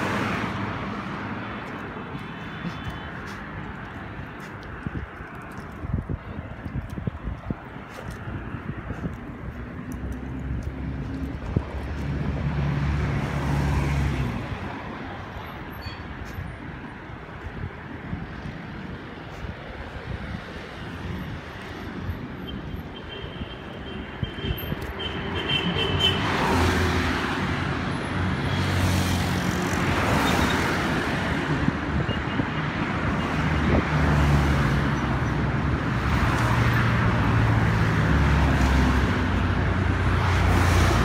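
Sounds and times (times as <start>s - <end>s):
vehicles driving past: 0.0s - 41.0s.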